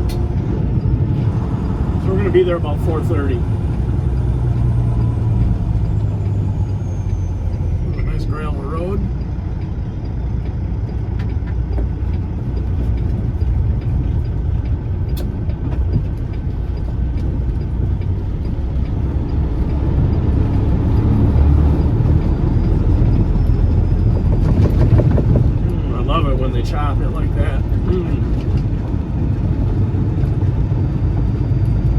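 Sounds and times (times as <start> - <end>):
diesel truck engine running: 0.0 - 31.9
tyres on gravel road: 0.0 - 31.9.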